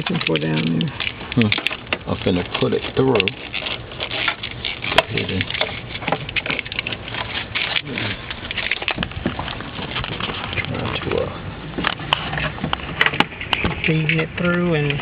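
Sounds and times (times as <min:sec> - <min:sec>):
wiring rustling and scraping: 0:00.0 - 0:15.0.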